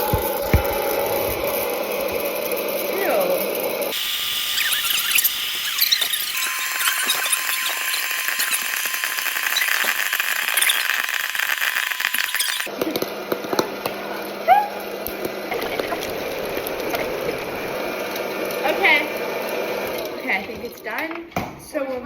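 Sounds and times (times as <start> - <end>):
hot oil sizzling: 0.0 - 21.0
popcorn popping in a pot: 0.0 - 21.2.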